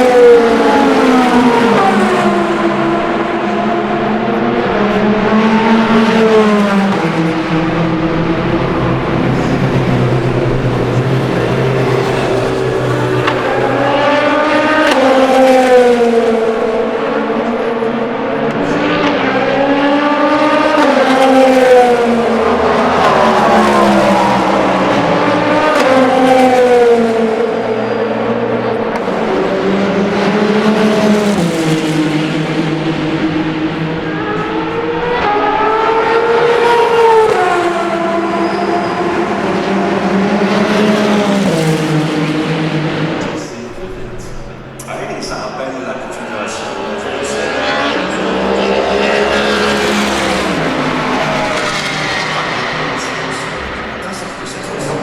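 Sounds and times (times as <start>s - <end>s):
race cars passing at speed: 0.0s - 55.0s.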